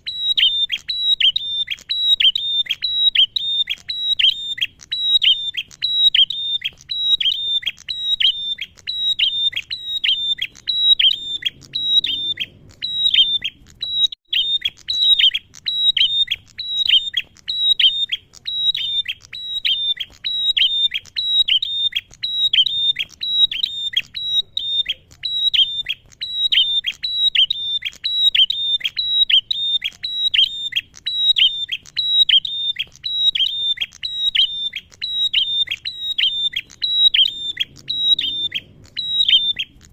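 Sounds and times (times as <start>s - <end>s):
bird calling high notes: 0.0s - 39.9s.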